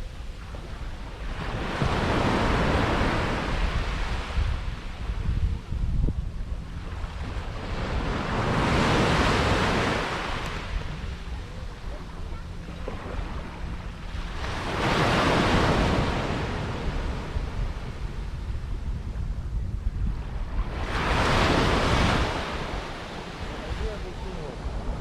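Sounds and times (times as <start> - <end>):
sea waves breaking on beach: 0.0 - 5.0, 6.8 - 18.2, 20.4 - 25.0
wind rumbling on microphone: 0.0 - 25.0.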